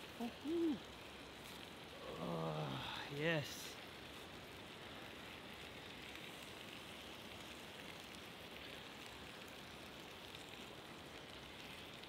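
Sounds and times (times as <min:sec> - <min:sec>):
meat sizzling over campfire: 0:00.0 - 0:12.0.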